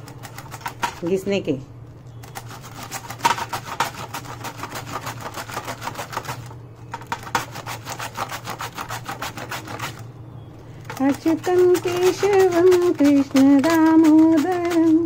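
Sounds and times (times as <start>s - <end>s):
cabbage scraping over slicer blade: 0.0s - 1.1s, 2.2s - 10.1s, 10.8s - 15.0s.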